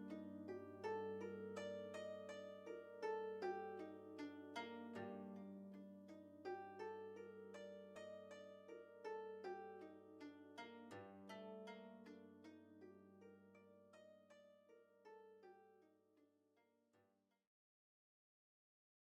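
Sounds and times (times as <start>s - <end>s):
plucked string notes: 0.0s - 15.8s.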